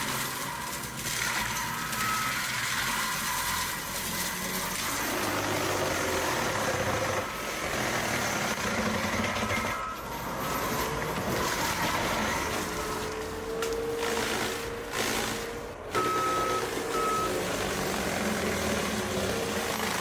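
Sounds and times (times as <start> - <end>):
machine engine running: 0.0 - 20.0.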